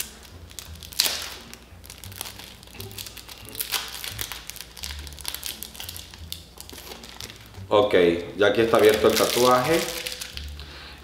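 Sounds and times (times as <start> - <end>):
packet crinkling: 0.0 - 7.6, 8.2 - 10.7.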